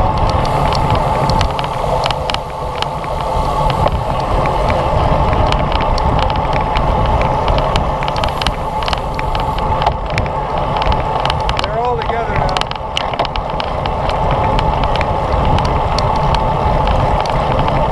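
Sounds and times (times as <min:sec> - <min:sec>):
road and tyre noise: 0:00.0 - 0:17.9
sharp clicks and rattles: 0:00.0 - 0:17.9
wind rushing over microphone: 0:00.0 - 0:17.9.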